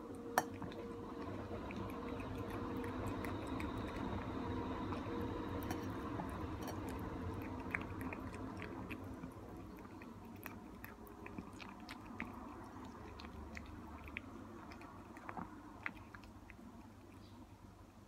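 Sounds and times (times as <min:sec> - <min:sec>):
cat chewing wet food: 0:00.0 - 0:18.0
low steady hum: 0:00.0 - 0:18.0.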